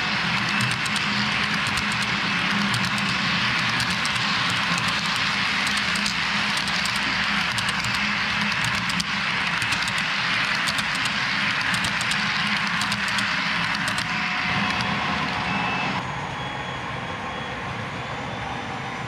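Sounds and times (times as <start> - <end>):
model train cars rumbling: 0.0 - 15.6.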